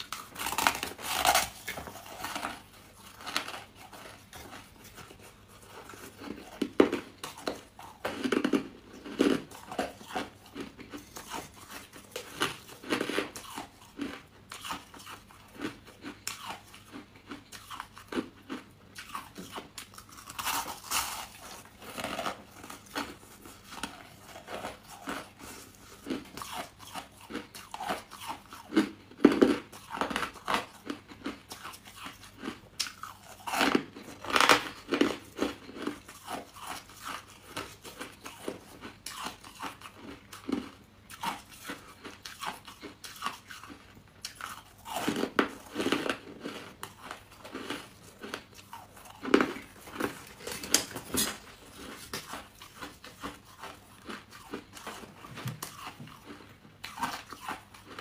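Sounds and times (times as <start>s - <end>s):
person biting crunchy food: 0.0s - 58.0s.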